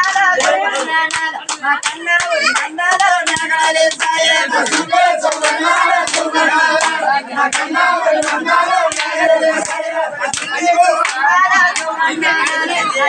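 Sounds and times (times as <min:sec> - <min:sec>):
group hand clapping: 0:00.0 - 0:13.0
voices singing a folk chant: 0:00.0 - 0:13.0.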